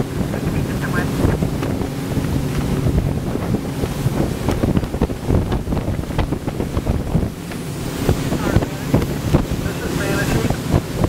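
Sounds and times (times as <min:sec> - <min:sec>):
boat engine drone: 0:00.0 - 0:11.0
hull thudding through waves: 0:00.0 - 0:11.0
wind buffeting microphone: 0:00.0 - 0:11.0.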